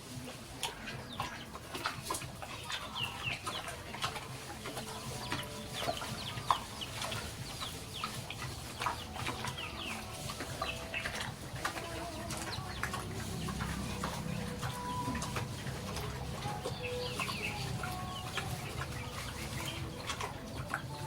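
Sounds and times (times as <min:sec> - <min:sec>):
chickens clucking and chirping: 0:00.0 - 0:21.0.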